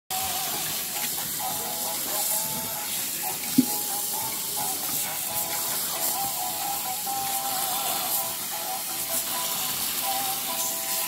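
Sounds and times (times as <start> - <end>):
tap water running into sink: 0.1 - 11.0
soft background music: 0.2 - 11.0.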